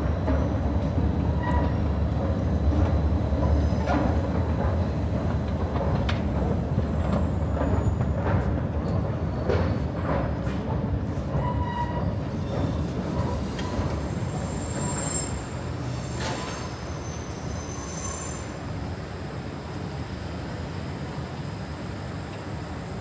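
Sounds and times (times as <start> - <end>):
train wheels squealing on rails: 0.0 - 6.2, 6.8 - 19.3
train rumble: 0.0 - 23.0.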